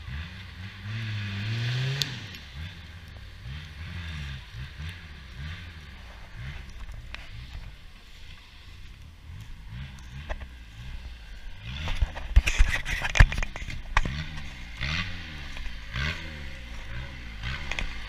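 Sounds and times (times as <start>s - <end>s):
vehicle engine revving hard: 0.0s - 8.2s, 9.2s - 18.0s.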